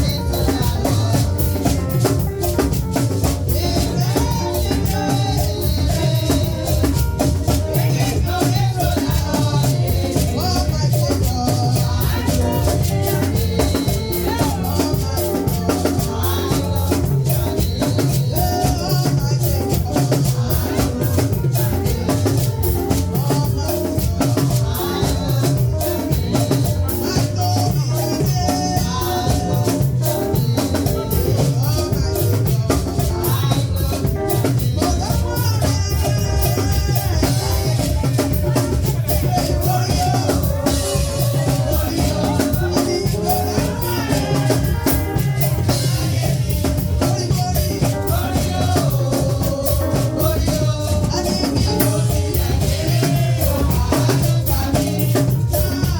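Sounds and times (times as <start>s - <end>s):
shaker rattle: 0.0s - 55.9s
upbeat band music: 0.0s - 55.9s.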